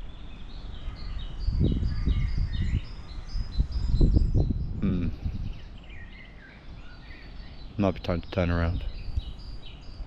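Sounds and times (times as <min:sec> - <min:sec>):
wind gusts on microphone: 0:00.0 - 0:10.0.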